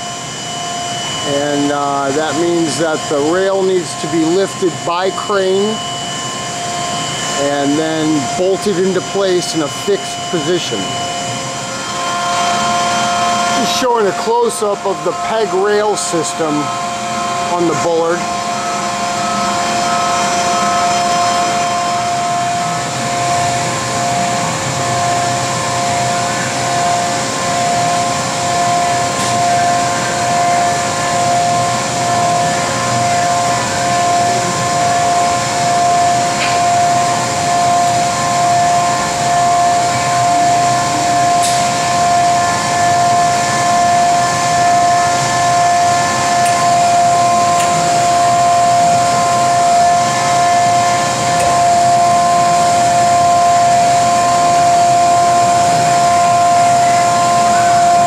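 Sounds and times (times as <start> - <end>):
industrial machinery whine and hum: 0.0 - 58.0.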